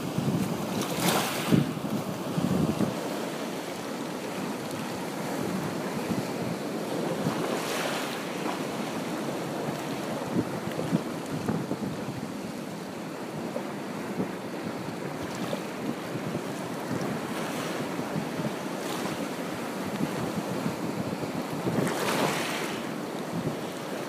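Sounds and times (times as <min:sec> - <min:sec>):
surf washing onto beach: 0:00.0 - 0:24.0
wind on microphone: 0:00.0 - 0:24.0.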